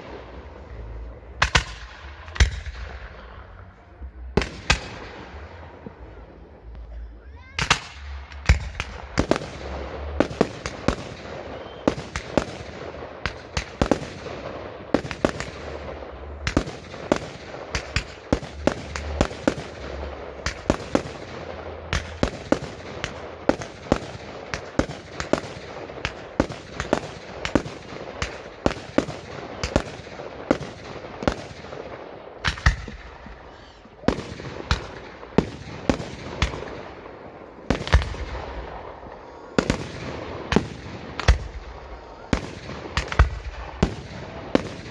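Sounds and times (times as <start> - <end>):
fireworks bangs: 0.0 - 6.8, 7.4 - 44.9
fireworks crackling: 0.0 - 44.9.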